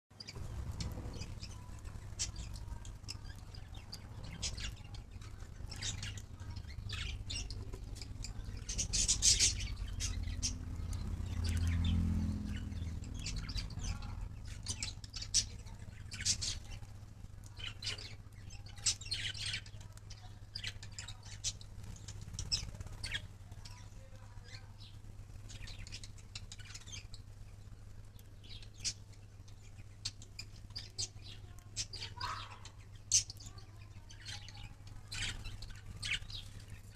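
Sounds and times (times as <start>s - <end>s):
birds chirping and squawking: 0.1s - 36.9s
low steady hum: 0.1s - 36.9s.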